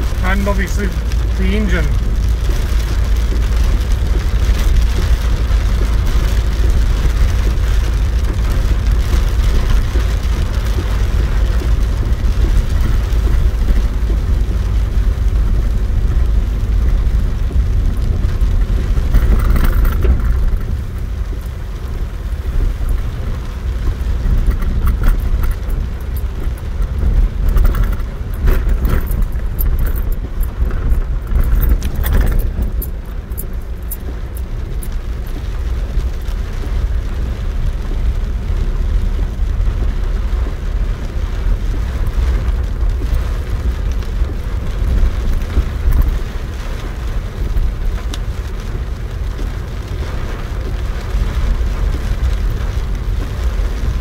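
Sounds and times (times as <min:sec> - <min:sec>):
car engine running: 0:00.0 - 0:54.0
heavy rain drumming on car roof: 0:00.0 - 0:54.0.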